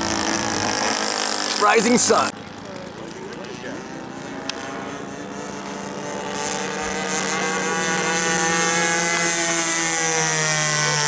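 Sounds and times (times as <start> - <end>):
model plane engine buzzing: 0.0 - 11.0.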